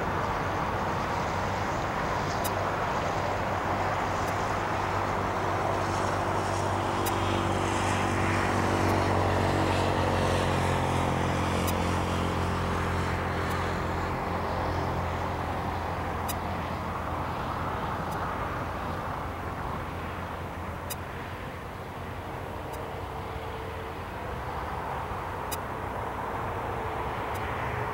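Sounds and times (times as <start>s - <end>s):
jet engines drone: 0.0s - 27.9s.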